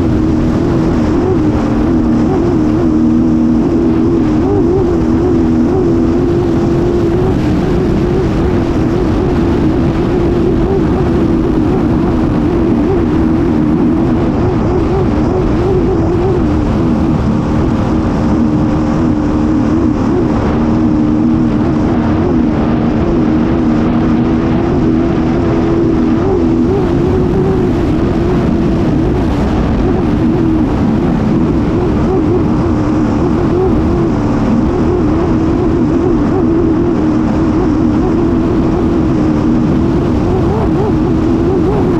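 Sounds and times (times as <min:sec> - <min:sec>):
racing boat engine running hard: 0:00.0 - 0:41.9
rush of wind and water spray: 0:00.0 - 0:41.9.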